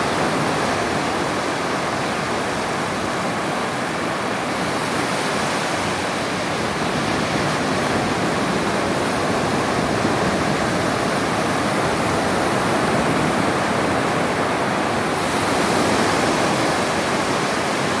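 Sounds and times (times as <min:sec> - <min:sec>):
small waves breaking on sand: 0:00.0 - 0:18.0.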